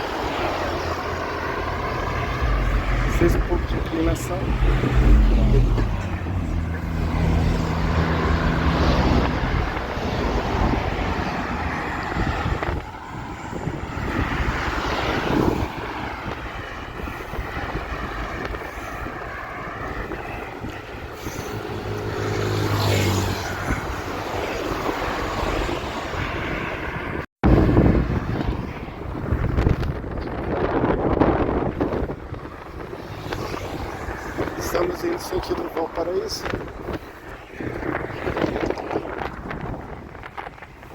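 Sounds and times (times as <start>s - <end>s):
passing vehicle engine hum: 0.0s - 40.9s
wind rushing over microphone: 0.0s - 40.9s.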